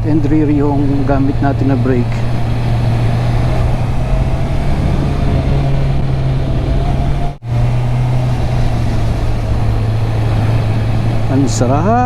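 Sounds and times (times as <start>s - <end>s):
motorcycle engine running: 0.0s - 12.0s
rush of noise: 0.0s - 12.0s.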